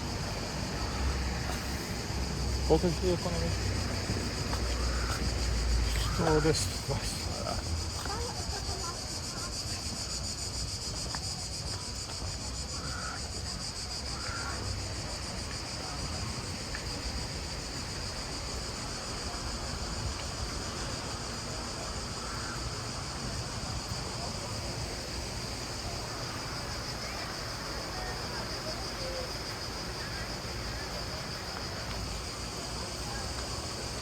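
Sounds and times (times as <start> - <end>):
insect chorus buzzing: 0.0 - 34.0.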